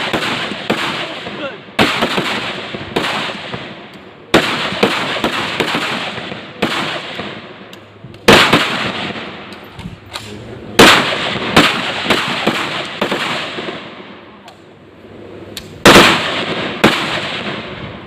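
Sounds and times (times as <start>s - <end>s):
echoing gunshots: 0.0s - 9.5s, 10.2s - 14.2s, 15.8s - 18.0s.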